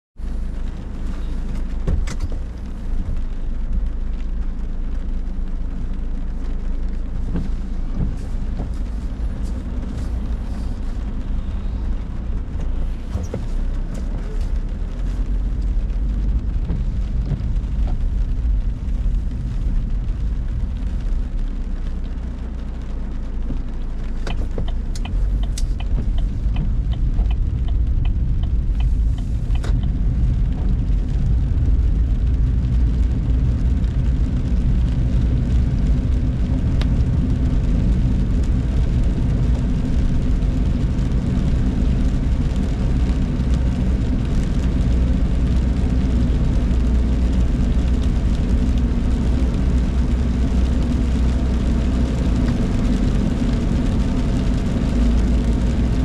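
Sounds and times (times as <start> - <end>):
car engine and tyres on wet road: 0.2 - 56.0
rain striking car: 0.2 - 56.0.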